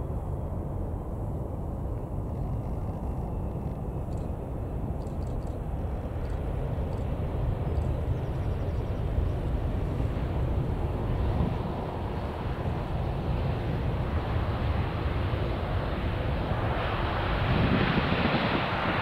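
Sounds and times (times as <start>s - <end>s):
jet airliner rumbling on runway: 0.0s - 19.0s.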